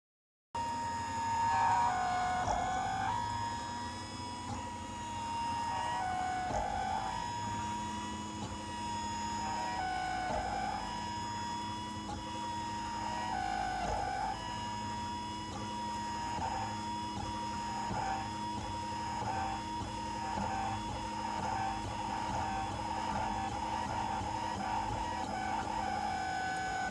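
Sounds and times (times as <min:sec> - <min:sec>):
printer whining: 0:00.6 - 0:26.9.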